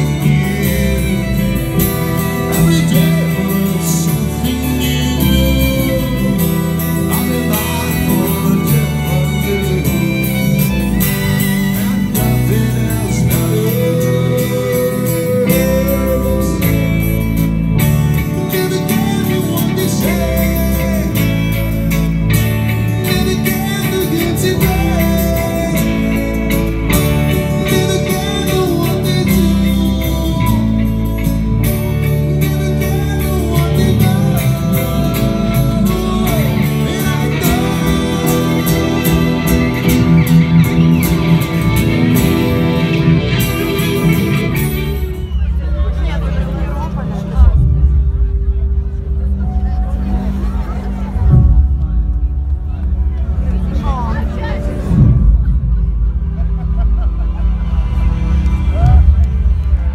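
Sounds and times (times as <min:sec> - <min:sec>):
man singing: 0:00.0 - 0:48.0
live rock band playing: 0:00.0 - 0:59.9.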